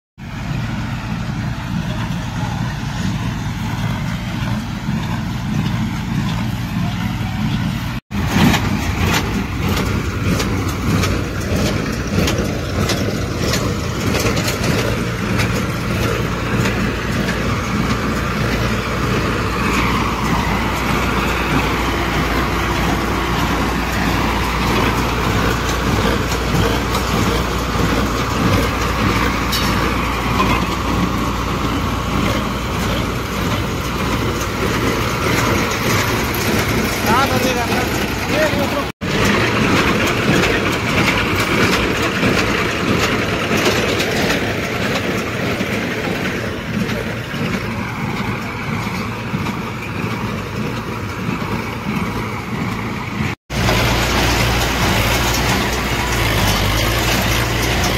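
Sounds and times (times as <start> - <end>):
tractor engine running: 0.2 - 57.9
baler clattering: 1.3 - 57.9.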